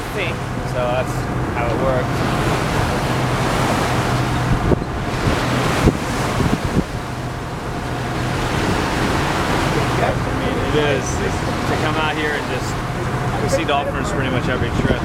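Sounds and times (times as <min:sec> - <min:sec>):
low engine hum: 0:00.0 - 0:15.0
water rushing past boat: 0:00.0 - 0:15.0
wind buffeting microphone: 0:00.0 - 0:15.0.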